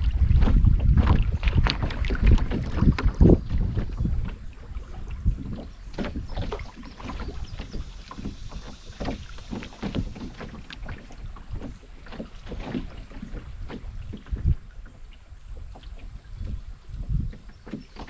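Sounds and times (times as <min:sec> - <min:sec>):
water splashing around paddle: 0:00.0 - 0:18.0
wind rumble on microphone: 0:00.0 - 0:18.0.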